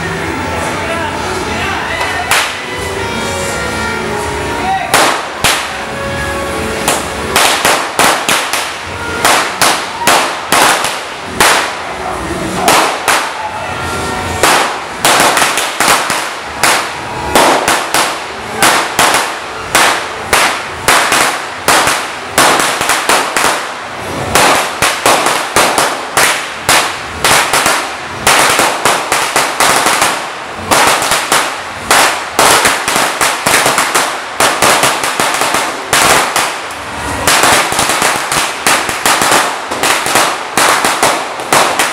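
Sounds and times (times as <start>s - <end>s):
firecrackers crackling: 0.0s - 41.9s.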